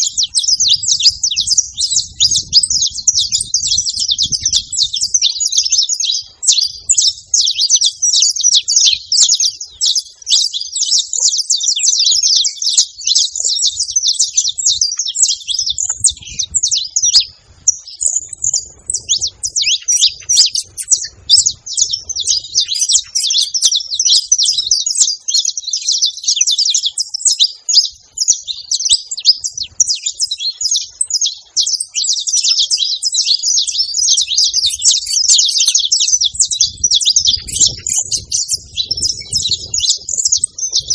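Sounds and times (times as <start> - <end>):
finch singing high chirps: 0.0 - 40.9.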